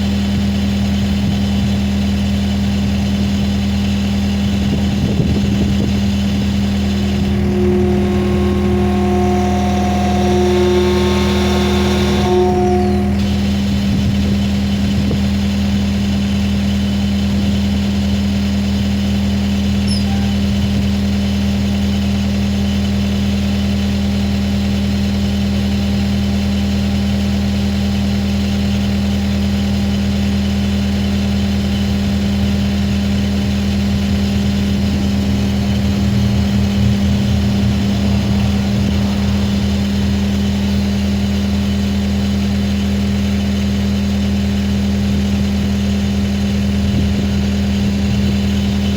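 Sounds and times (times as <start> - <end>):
skid steer engine idling: 0.0 - 48.9.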